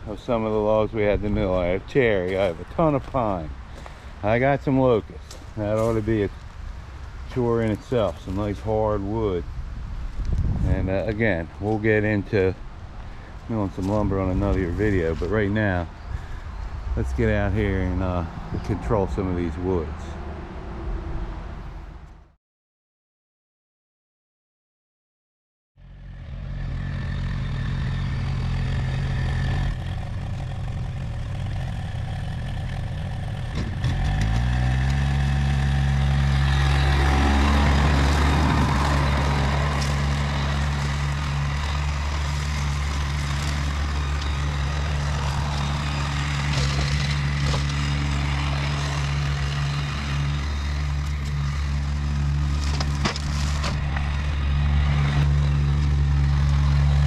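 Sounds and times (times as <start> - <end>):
tractor diesel engine running: 0.0 - 20.2, 25.8 - 57.0.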